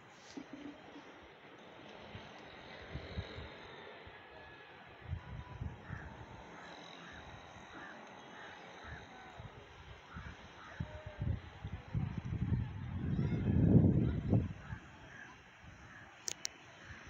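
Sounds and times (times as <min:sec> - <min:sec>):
outdoor ambience: 0:00.0 - 0:17.0.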